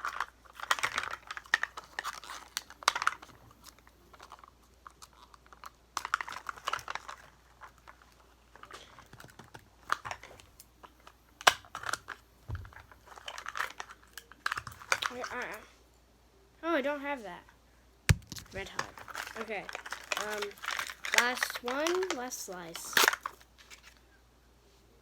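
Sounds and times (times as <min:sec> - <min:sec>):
plastic wrapping crinkling and tearing: 0:00.0 - 0:15.6, 0:18.1 - 0:24.0.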